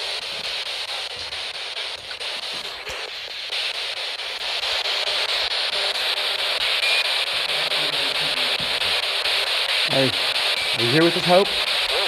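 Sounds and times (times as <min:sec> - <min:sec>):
hissing static: 0:00.0 - 0:12.0.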